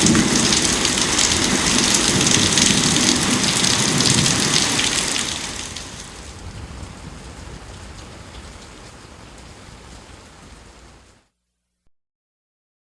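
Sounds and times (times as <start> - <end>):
rain falling: 0.0 - 11.3.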